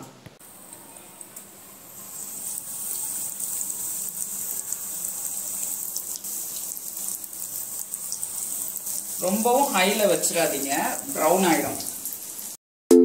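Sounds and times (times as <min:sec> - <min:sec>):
food deep-frying in oil: 0:00.4 - 0:12.6.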